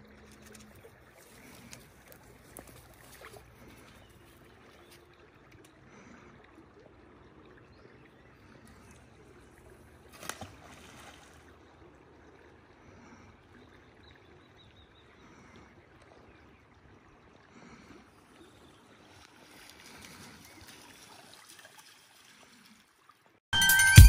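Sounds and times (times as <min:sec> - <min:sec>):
faint flowing river water: 0:00.0 - 0:23.4.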